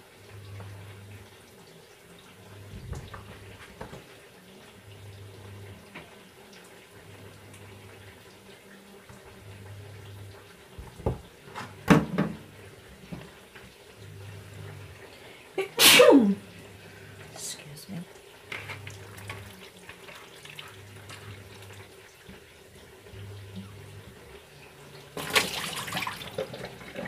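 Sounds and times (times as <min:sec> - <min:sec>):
kitchen tap water rushing: 0:00.0 - 0:27.0.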